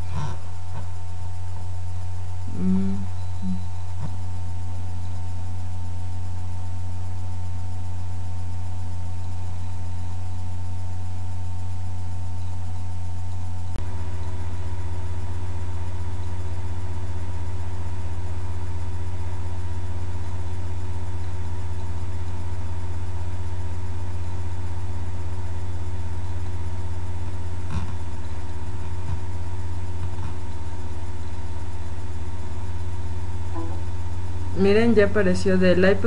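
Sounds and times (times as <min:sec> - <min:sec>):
faint steady tones: 0:00.0 - 0:36.0
steady low hum: 0:00.0 - 0:36.0.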